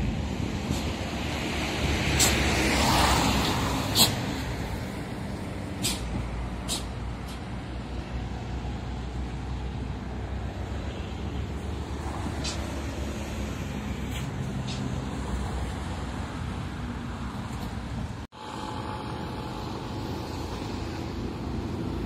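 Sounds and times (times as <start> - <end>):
traffic passing: 0.0 - 22.0.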